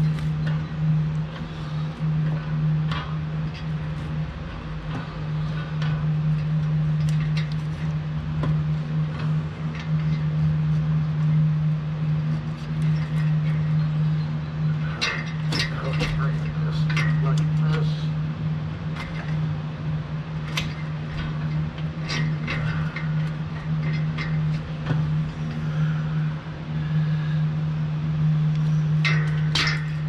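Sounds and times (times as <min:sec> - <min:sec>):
cable clicking and rattling: 0:00.0 - 0:18.2, 0:18.8 - 0:25.9, 0:28.5 - 0:30.0
low machine hum: 0:00.0 - 0:30.0.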